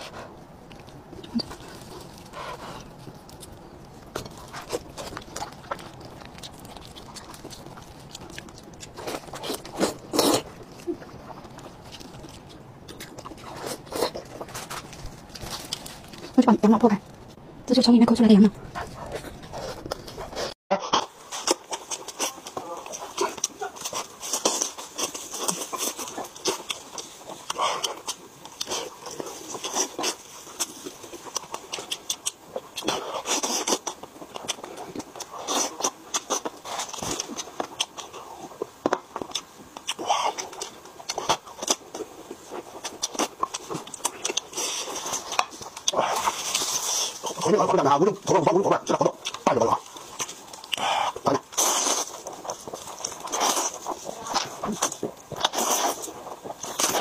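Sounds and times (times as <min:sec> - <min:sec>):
person chewing and lip-smacking: 0:00.6 - 0:14.5, 0:20.9 - 0:57.0.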